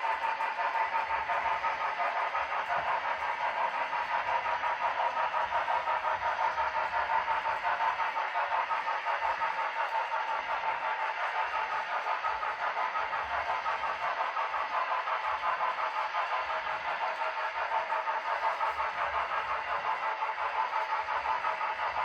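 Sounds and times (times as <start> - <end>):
model locomotive sound from speaker: 0.0 - 22.0.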